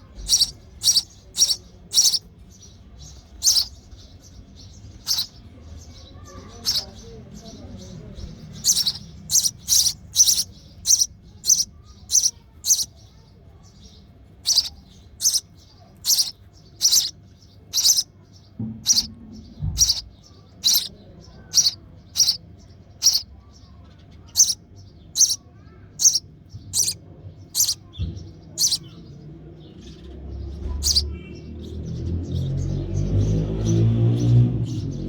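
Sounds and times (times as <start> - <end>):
young sparrow begging chirps: 0.0 - 35.0.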